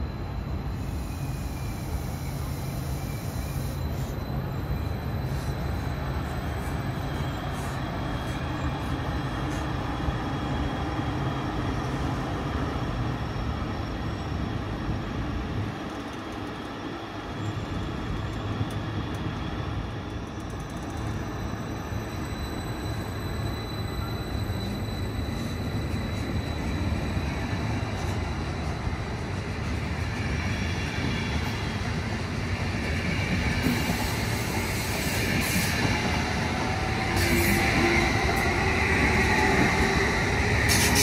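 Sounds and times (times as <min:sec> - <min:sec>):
train wheels rumbling and rattling: 0:00.7 - 0:41.0.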